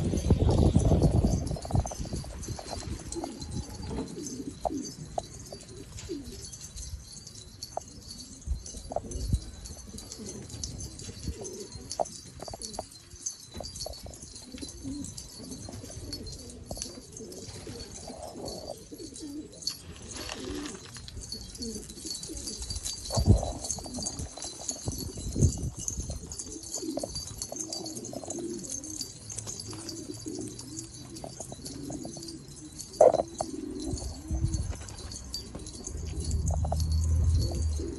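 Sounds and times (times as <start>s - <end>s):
pigeons cooing: 0.0s - 37.9s.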